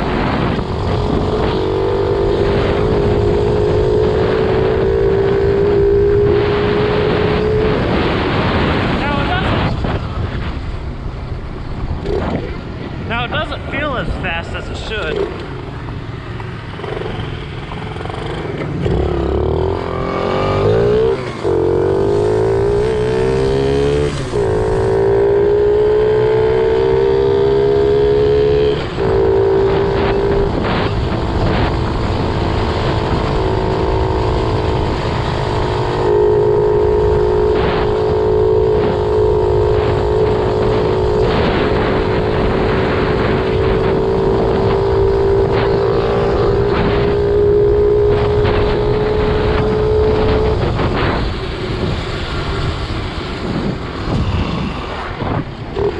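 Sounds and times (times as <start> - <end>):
dirt bike engine accelerating: 0.0 - 10.8, 11.7 - 55.9.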